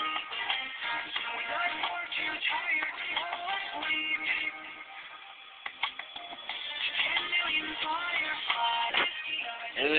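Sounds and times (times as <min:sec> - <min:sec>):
background song: 0:00.0 - 0:09.9.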